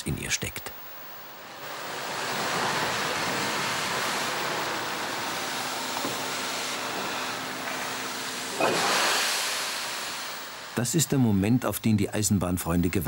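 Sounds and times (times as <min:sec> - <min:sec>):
steam locomotive hissing steam: 0:01.2 - 0:13.0.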